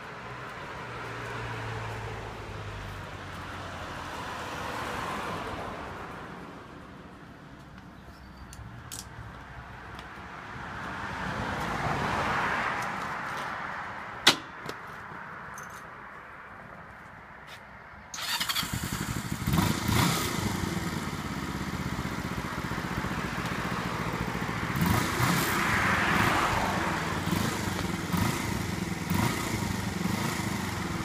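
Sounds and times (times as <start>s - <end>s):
vehicles passing: 0.0s - 31.0s.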